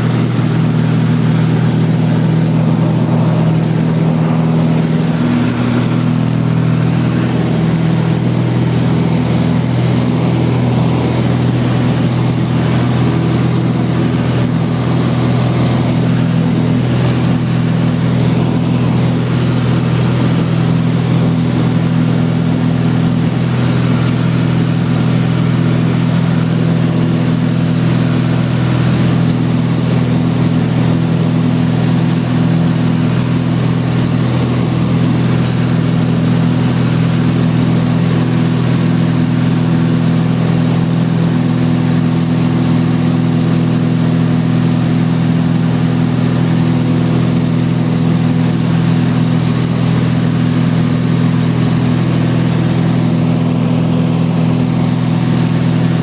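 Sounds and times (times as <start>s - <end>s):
plane engine droning: 0.0s - 56.0s.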